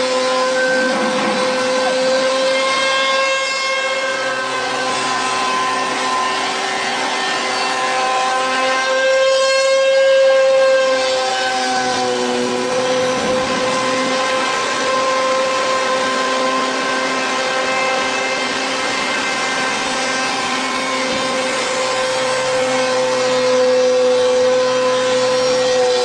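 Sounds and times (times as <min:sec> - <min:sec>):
hiss of cutter in wood: 0:00.0 - 0:26.0
machine spindle whine: 0:00.0 - 0:26.0.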